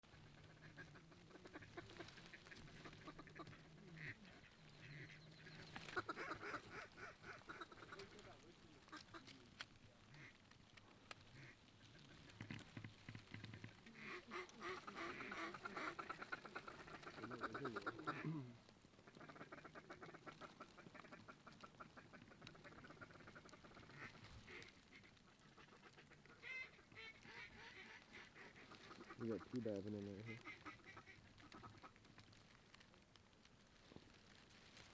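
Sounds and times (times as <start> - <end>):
ducks calling: 0.0 - 33.1.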